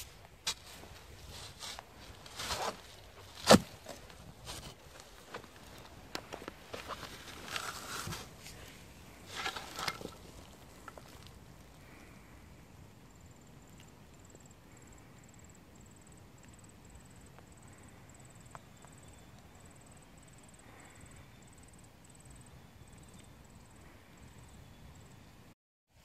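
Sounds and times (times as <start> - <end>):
cricket chirping: 0.0 - 25.5
outdoor background hiss: 0.0 - 26.0.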